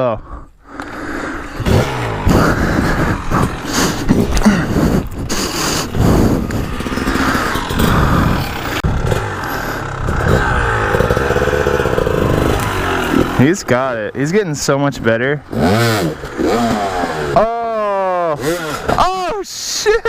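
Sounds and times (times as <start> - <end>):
dirt bike engine revving: 0.7 - 19.3.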